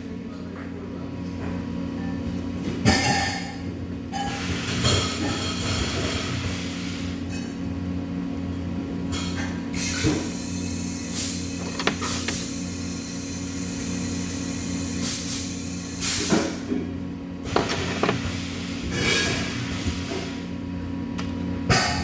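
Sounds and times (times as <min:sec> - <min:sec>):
industrial machine hum: 0:00.0 - 0:22.0.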